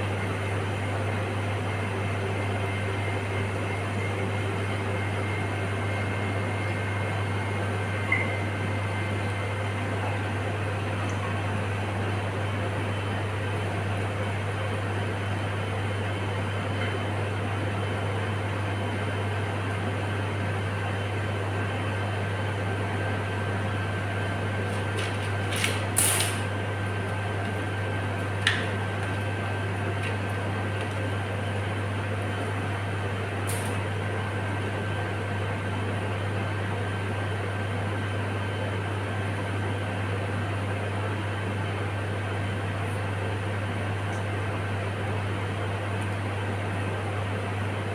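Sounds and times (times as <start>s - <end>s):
mechanical hum with high whine: 0.0s - 47.9s.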